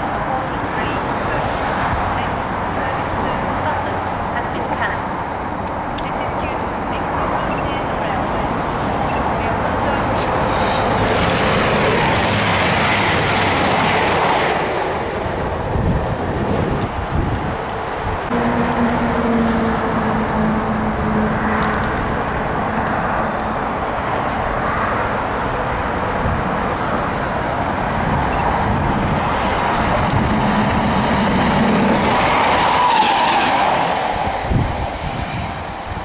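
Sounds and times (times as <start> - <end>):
train passing at speed: 0.0 - 36.0.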